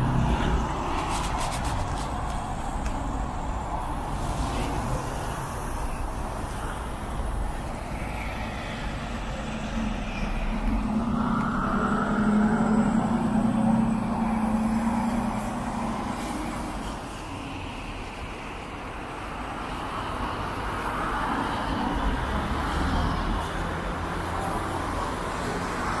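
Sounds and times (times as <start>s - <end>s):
road noise: 0.0s - 26.0s
vehicle engine hum: 0.0s - 26.0s.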